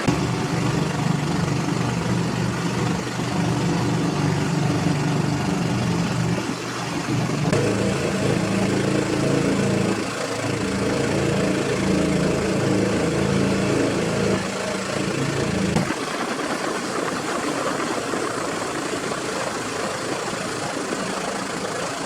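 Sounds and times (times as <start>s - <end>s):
motor engine running steadily: 0.0s - 22.0s.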